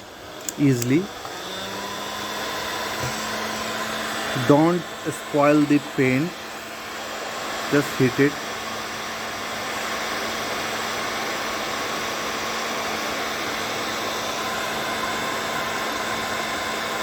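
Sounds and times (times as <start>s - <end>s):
heat gun blowing: 0.0s - 17.0s.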